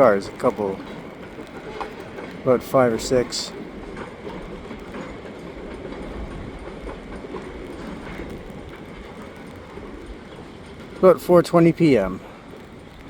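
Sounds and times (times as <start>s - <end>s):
freight train rumbling slowly: 0.0s - 13.0s
train wheel clicks: 0.0s - 13.0s.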